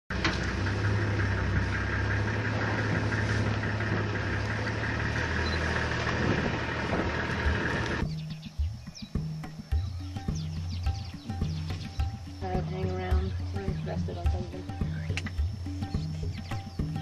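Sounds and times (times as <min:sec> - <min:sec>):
vehicle engine running: 0:00.1 - 0:17.0.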